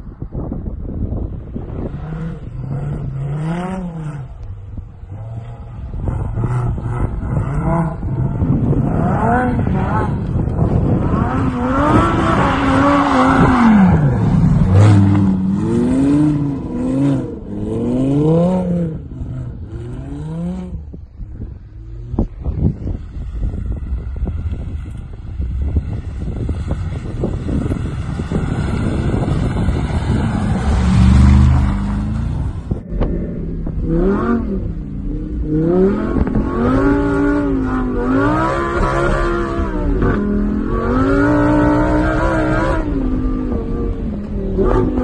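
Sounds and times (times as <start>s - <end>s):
car engine revving: 1.4s - 45.0s.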